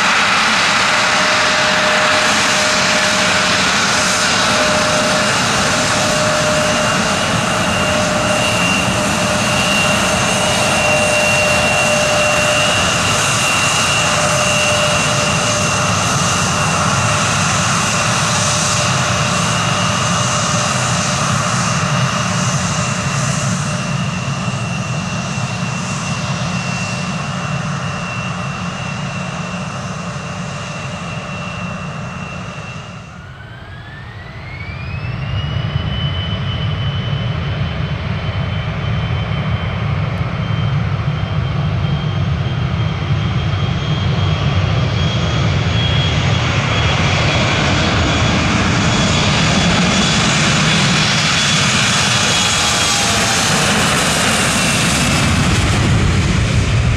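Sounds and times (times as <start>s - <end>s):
jet engines spooling up: 0.0s - 56.9s
jet engines whining: 0.0s - 56.9s.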